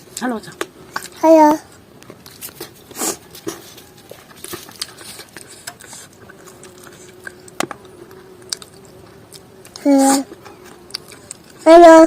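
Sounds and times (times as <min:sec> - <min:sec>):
faint steady hum: 0:00.0 - 0:12.0
chewing clicks and smacks: 0:02.0 - 0:11.7
rustle: 0:02.1 - 0:12.0.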